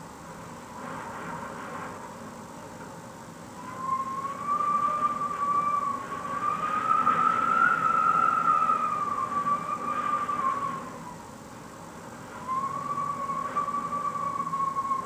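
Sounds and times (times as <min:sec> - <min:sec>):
wind whistling through window gap: 0:00.0 - 0:15.0.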